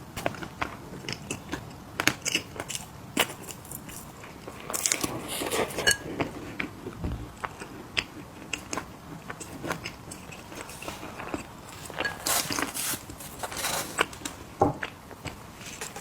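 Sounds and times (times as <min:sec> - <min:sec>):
person crunching cookies: 0:00.2 - 0:16.0.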